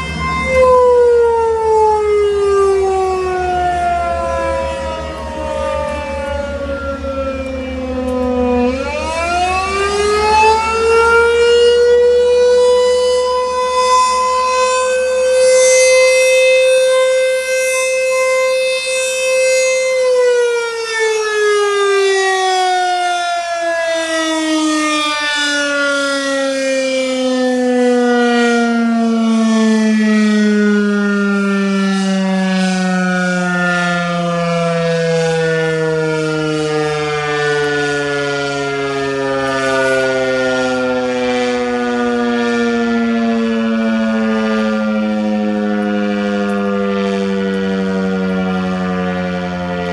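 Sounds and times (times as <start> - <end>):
rotating warning siren: 0.0 - 49.9.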